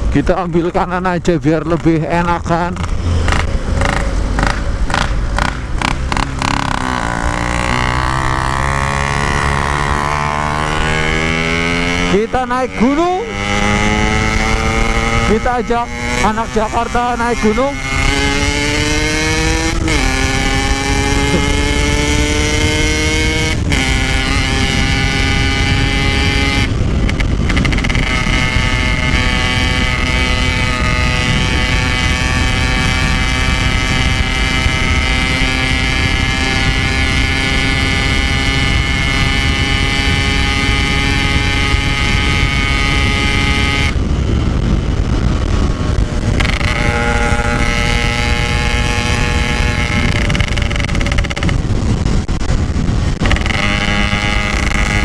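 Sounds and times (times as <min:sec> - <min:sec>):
two-stroke motorcycle engine: 0:01.6 - 0:55.0.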